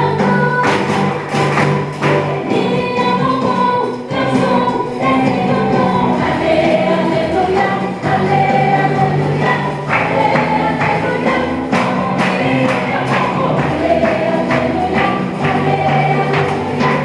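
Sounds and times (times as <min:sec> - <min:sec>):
choir singing with backing music: 0:00.0 - 0:17.0.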